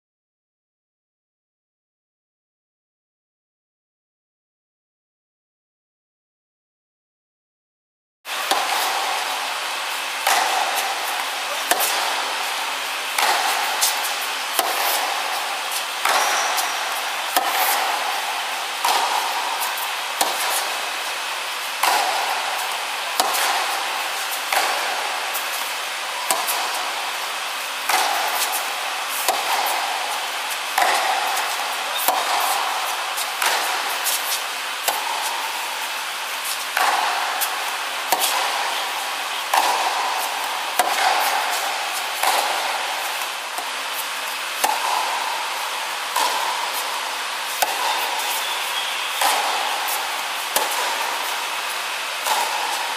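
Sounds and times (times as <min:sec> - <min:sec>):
tennis ball bouncing: 0:08.4 - 0:09.4, 0:10.2 - 0:52.9
rackets striking tennis ball: 0:08.4 - 0:52.9.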